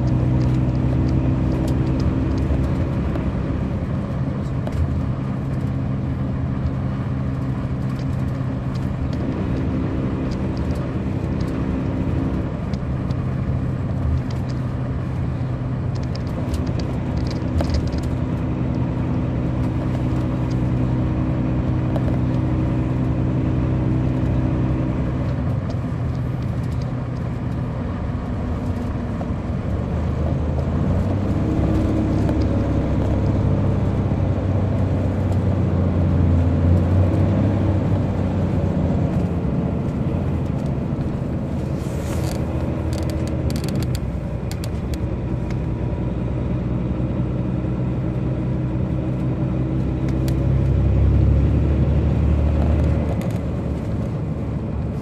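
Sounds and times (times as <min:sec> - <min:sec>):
diesel bus engine droning: 0:00.0 - 0:55.0.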